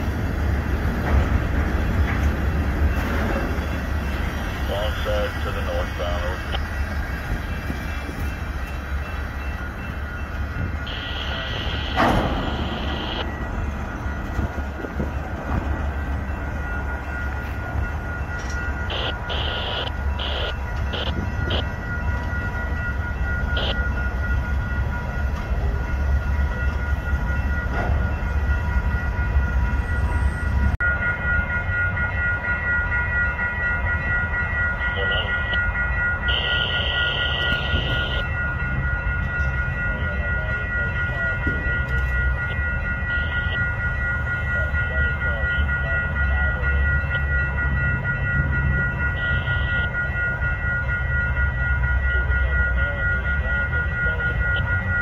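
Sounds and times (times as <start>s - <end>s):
crossing warning bell ringing: 0.0s - 55.0s
freight train rumbling: 0.0s - 55.0s.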